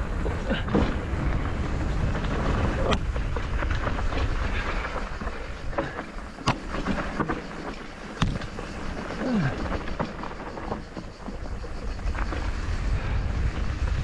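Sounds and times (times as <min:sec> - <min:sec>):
wind on microphone: 0:00.0 - 0:06.0, 0:08.2 - 0:14.0
bike tyres on dirt and stones: 0:00.0 - 0:14.0
bike knocking over ground: 0:00.1 - 0:01.4, 0:02.0 - 0:12.5.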